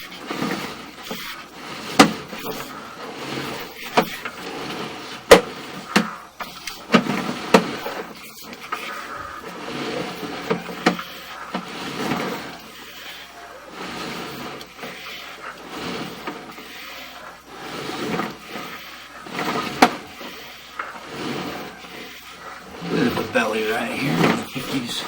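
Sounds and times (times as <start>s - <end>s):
cable rubbing and scraping: 0.0s - 5.8s, 6.4s - 25.0s.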